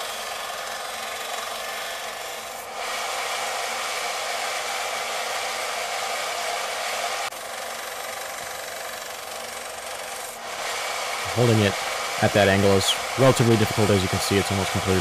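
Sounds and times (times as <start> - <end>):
belt sander grinding blade: 0.0 - 15.0
motor hum: 0.0 - 15.0.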